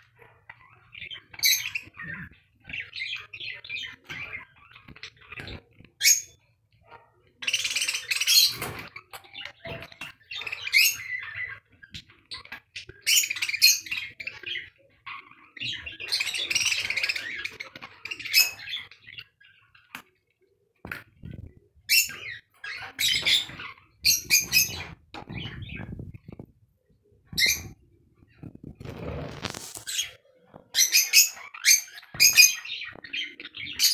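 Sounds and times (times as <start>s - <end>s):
budgerigars chattering and chirping: 0.0s - 6.6s, 7.2s - 19.9s, 21.2s - 26.4s, 27.3s - 33.9s.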